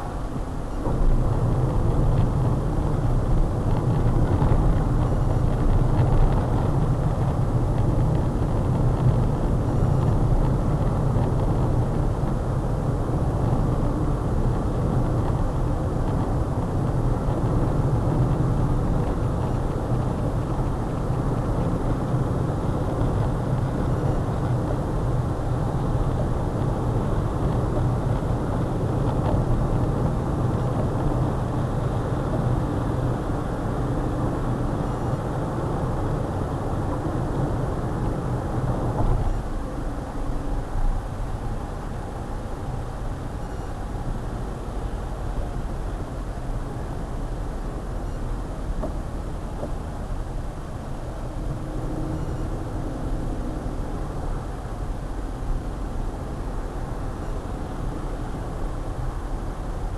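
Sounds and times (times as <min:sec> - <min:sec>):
truck engine and road rumble: 0:00.0 - 0:59.9.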